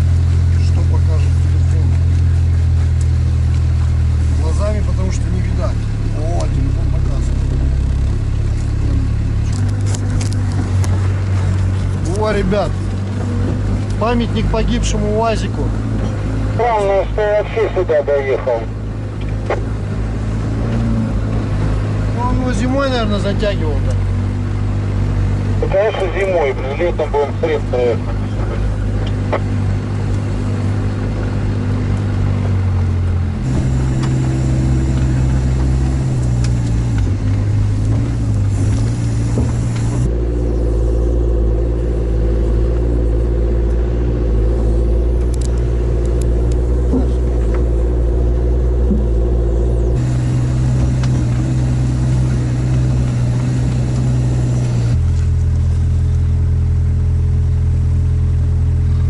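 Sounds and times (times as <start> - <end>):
vehicle engine running under load: 0.0 - 59.0.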